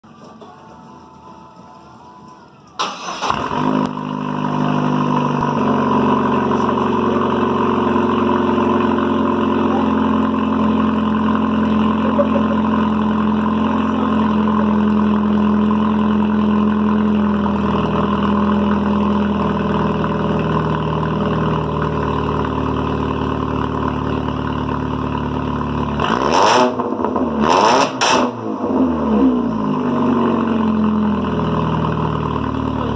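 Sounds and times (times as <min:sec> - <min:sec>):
car engine starting: 0:02.7 - 0:32.9
car engine idling: 0:02.8 - 0:32.9
engine revving: 0:02.8 - 0:32.9.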